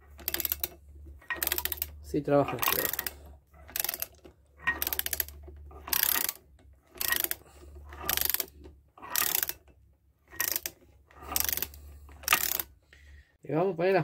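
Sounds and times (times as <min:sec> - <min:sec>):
engine gears ratcheting and clicking: 0:00.0 - 0:12.8.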